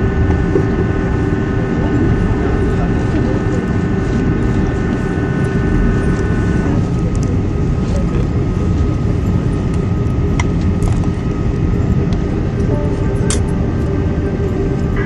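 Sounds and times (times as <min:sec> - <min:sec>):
aircraft cabin rumble: 0:00.0 - 0:15.0
jet engine whine: 0:00.0 - 0:15.0.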